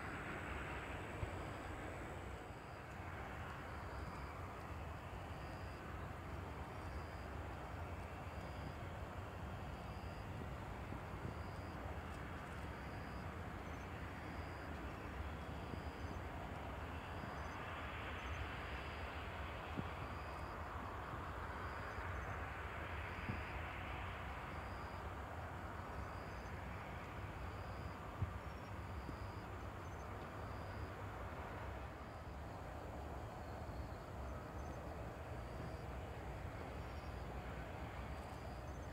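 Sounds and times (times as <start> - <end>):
distant aircraft rumble: 0.0 - 38.9
insect chirping: 0.5 - 9.0, 9.6 - 19.2, 20.0 - 25.1, 25.7 - 38.9.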